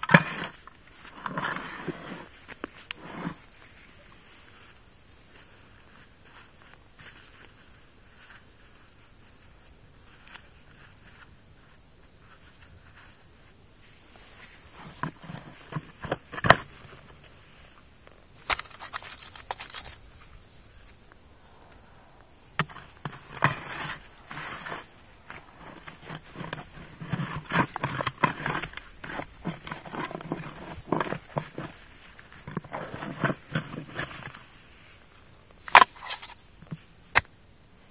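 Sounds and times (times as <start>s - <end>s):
auger scraping and crunching soil: 0.0s - 37.2s.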